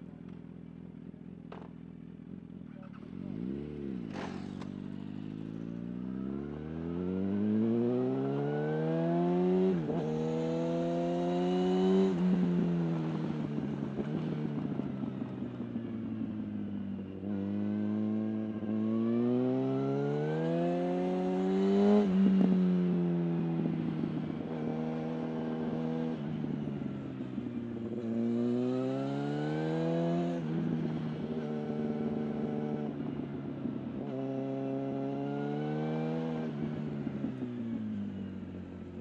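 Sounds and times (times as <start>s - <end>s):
motorcycle engine revving through gears: 1.3s - 33.2s, 34.0s - 38.1s.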